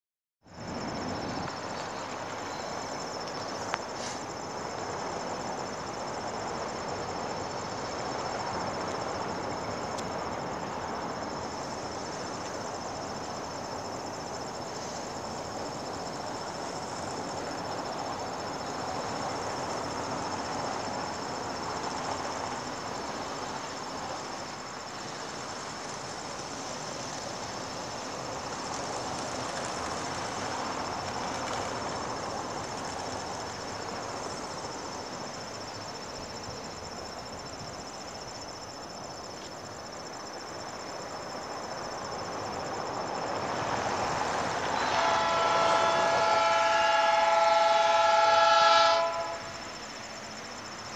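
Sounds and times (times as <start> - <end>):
insects trilling: 0.4 - 50.9
background noise: 0.5 - 50.9.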